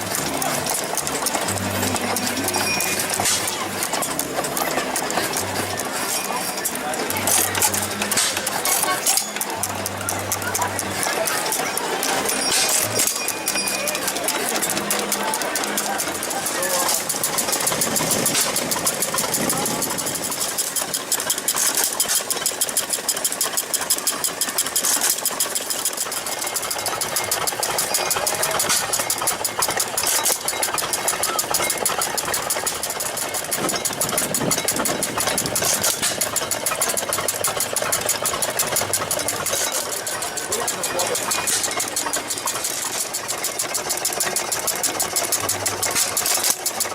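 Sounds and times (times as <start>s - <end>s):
gas engines clattering: 0.0s - 46.9s.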